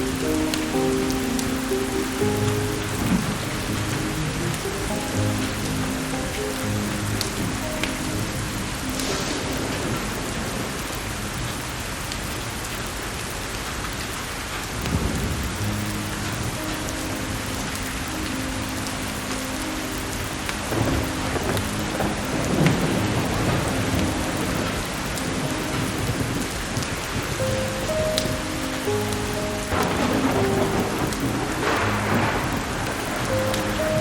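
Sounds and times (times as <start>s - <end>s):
thunder rumbling: 0.0s - 12.7s, 14.8s - 34.0s
heavy rain: 0.0s - 34.0s.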